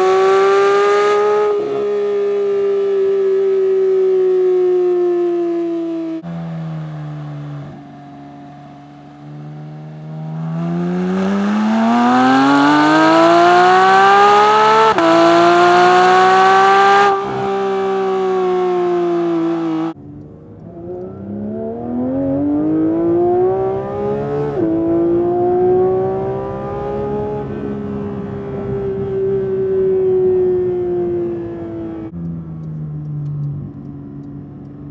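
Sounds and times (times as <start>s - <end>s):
car engine accelerating hard: 0.0s - 34.9s
in-cabin engine acceleration: 4.9s - 34.9s.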